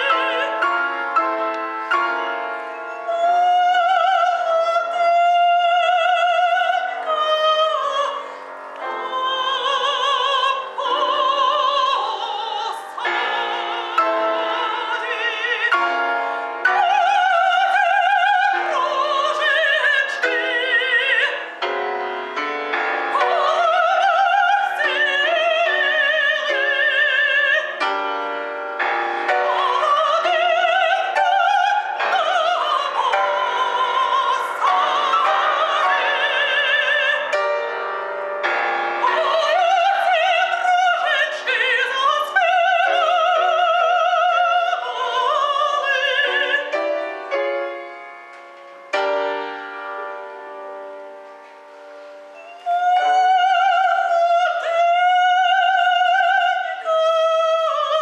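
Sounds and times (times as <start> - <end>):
soprano singing with vibrato: 0.0 - 48.2, 52.2 - 58.0
grand piano: 0.0 - 58.0.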